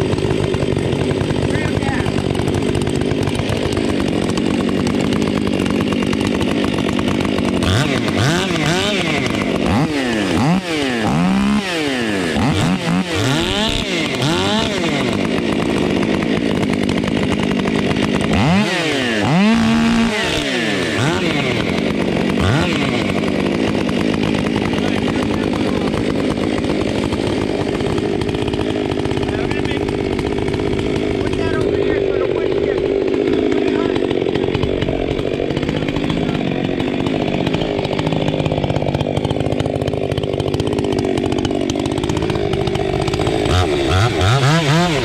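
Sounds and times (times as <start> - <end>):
chainsaws idling and revving: 0.0 - 45.0.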